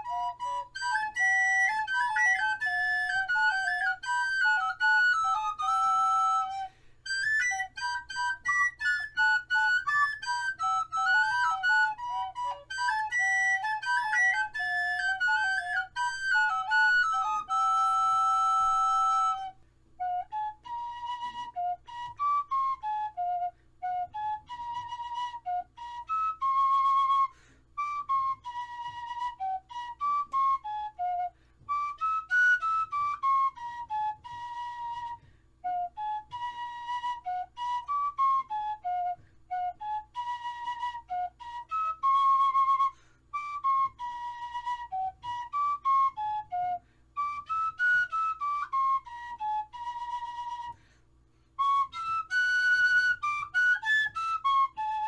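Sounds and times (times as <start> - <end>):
wind instrument melody: 0.0 - 50.9, 51.6 - 55.0.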